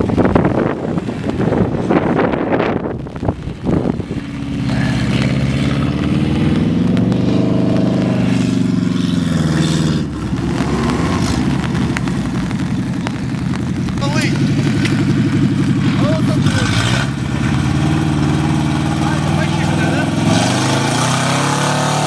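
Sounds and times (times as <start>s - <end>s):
wind noise: 0.0s - 21.5s
car engine revving: 0.0s - 22.0s.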